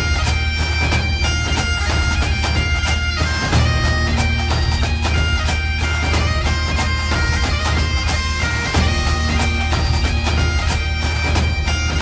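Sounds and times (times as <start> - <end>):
bagpipe music with drone: 0.0 - 12.0.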